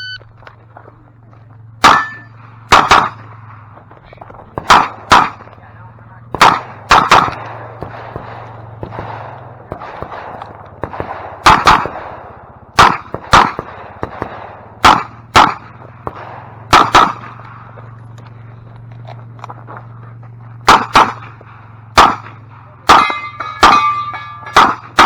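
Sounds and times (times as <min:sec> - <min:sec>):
revolver shots: 0:01.7 - 0:05.6, 0:06.2 - 0:17.9, 0:20.6 - 0:25.0.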